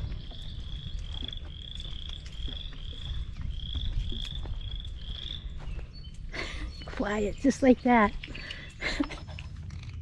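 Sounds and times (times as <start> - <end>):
frogs trilling: 0.0 - 10.0.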